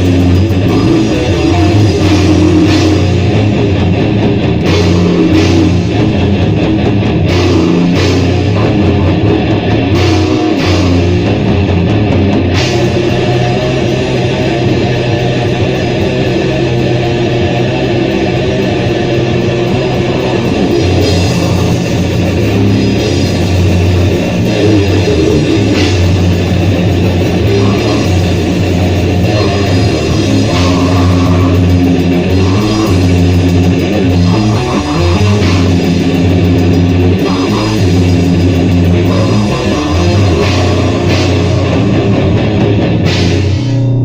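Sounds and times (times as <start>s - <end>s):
bass guitar: 0.0s - 44.0s
drums: 0.0s - 44.0s
electric guitar riffs: 0.0s - 44.0s.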